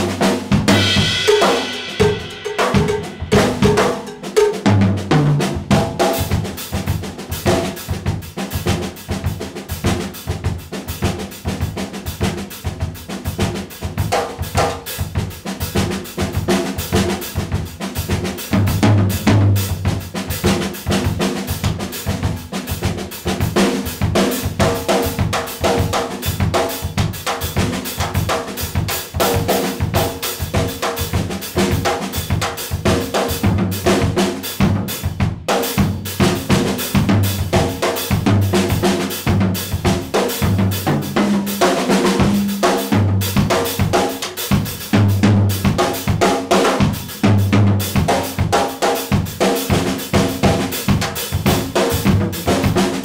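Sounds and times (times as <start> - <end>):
drum kit groove: 0.0 - 53.0.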